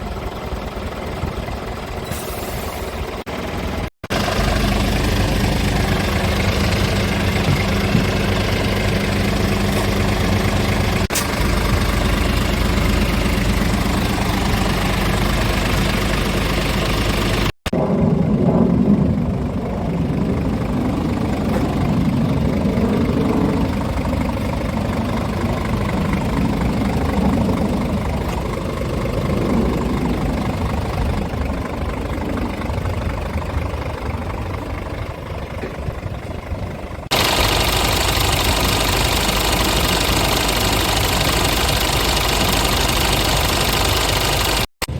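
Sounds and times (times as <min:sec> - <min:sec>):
diesel truck engine idling: 0:00.0 - 0:17.6, 0:19.2 - 0:44.9.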